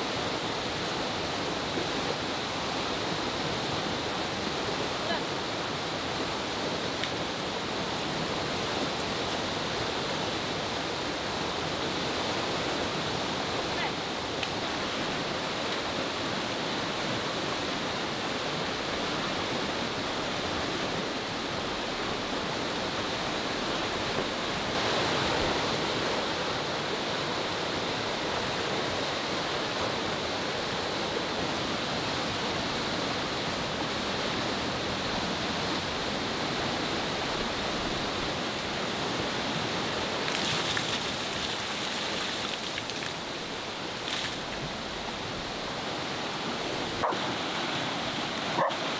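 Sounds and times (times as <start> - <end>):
river rushing: 0.0 - 48.9.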